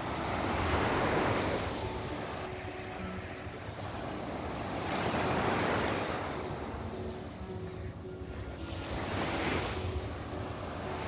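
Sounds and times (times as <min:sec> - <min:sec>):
sea surf on sandy beach: 0:00.0 - 0:11.0.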